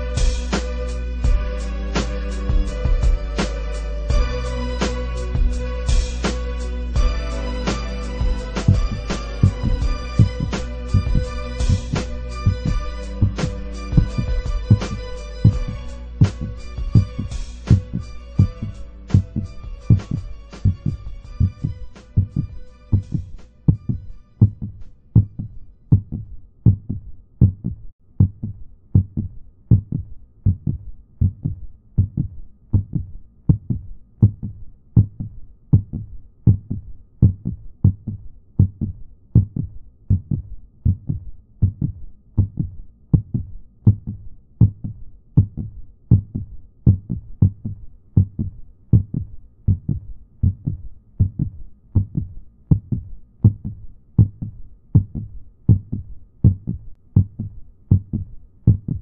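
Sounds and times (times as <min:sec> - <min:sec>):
heartbeat: 0:00.0 - 0:00.6, 0:01.2 - 0:01.7, 0:02.5 - 0:03.5, 0:04.1 - 0:06.4, 0:07.0 - 0:59.0.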